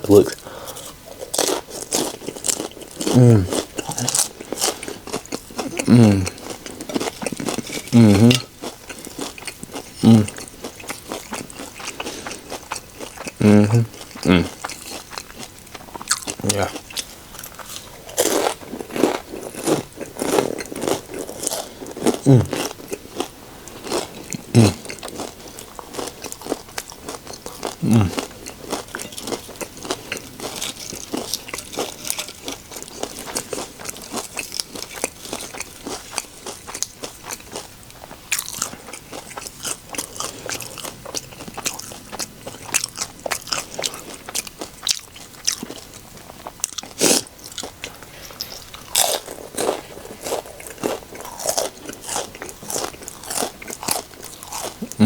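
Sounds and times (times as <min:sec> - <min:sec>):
chewing and crunching chips: 0:00.0 - 0:55.0.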